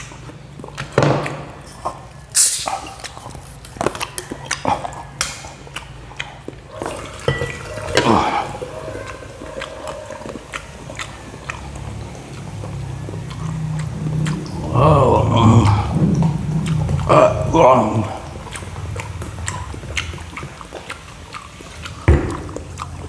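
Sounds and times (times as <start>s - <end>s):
chewing crispy food: 0.0s - 23.0s.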